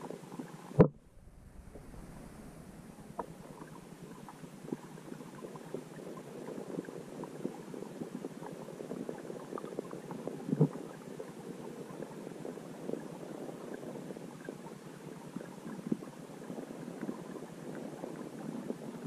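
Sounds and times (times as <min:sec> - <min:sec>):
muffled underwater water noise: 0:00.0 - 0:19.0.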